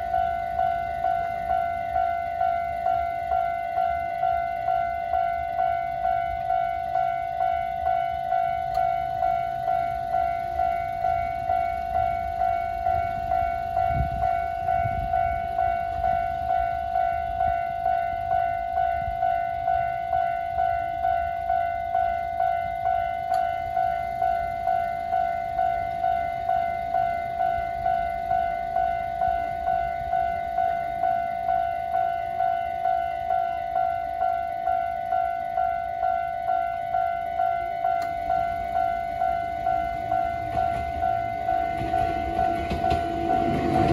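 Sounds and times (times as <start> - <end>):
level-crossing alarm bell: 0.0 - 43.9.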